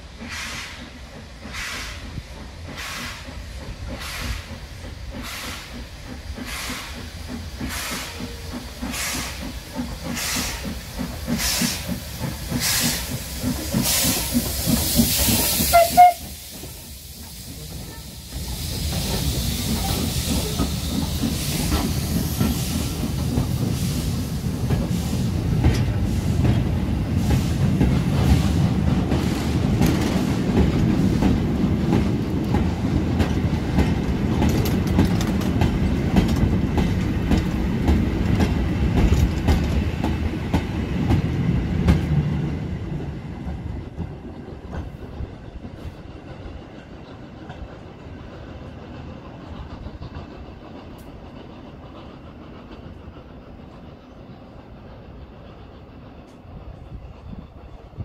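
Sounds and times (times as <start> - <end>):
clickety-clack over rail joints: 0.0 - 58.0
train wheels rumbling: 0.0 - 58.0.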